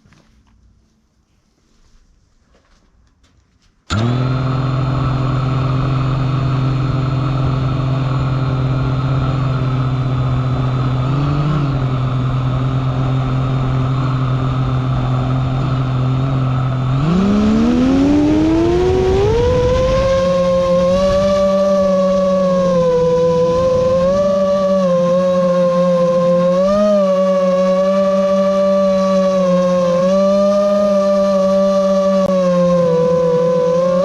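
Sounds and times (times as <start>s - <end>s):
drone motors humming: 3.9s - 34.0s.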